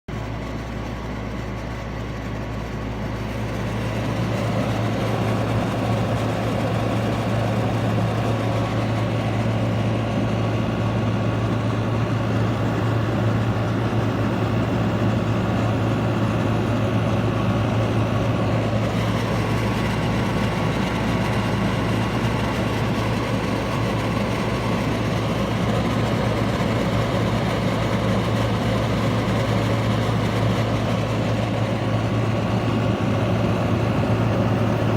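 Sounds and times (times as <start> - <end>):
fan rushing air: 0.1 - 34.9
air conditioner compressor hum: 0.5 - 34.9.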